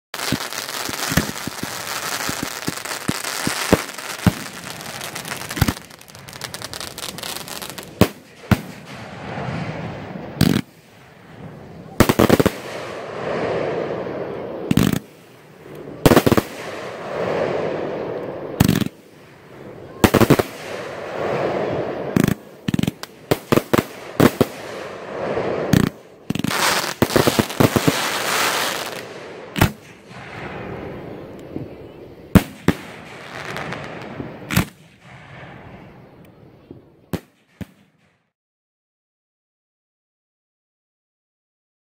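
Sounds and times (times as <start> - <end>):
fireworks bursting with crackling: 0.2 - 36.2.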